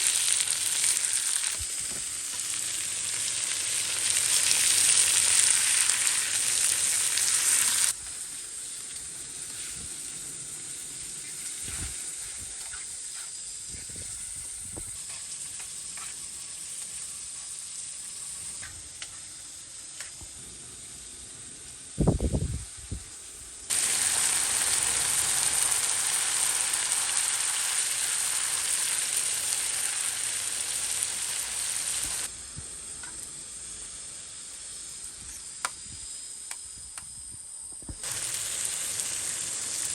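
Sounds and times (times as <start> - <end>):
eggs sizzling in a pan: 0.0 - 22.0, 23.4 - 35.6, 37.9 - 39.9.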